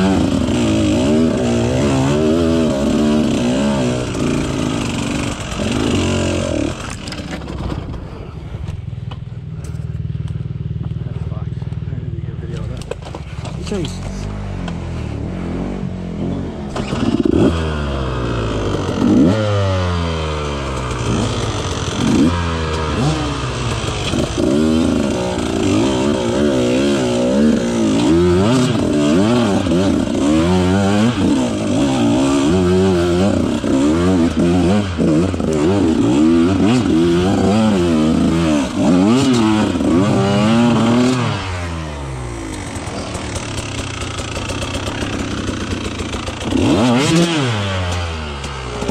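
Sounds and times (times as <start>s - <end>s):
two-stroke motorcycle engine revving: 0.0s - 8.0s, 9.7s - 48.9s.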